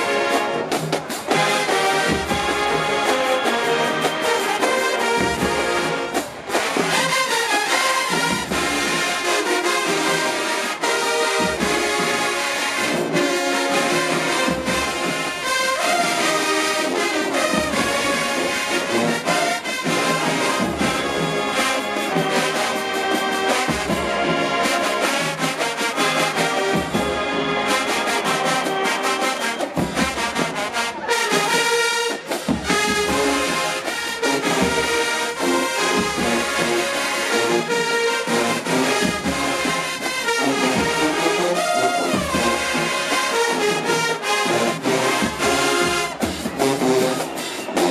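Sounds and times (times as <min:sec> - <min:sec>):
brass section playing: 0:00.0 - 0:47.9
drums beating steady rhythm: 0:00.0 - 0:47.9.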